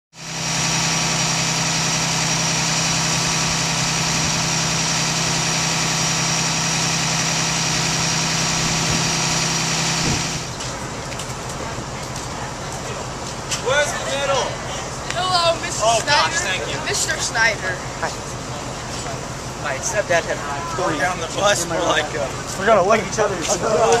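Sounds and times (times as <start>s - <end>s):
bus engine idling: 0.2s - 24.0s.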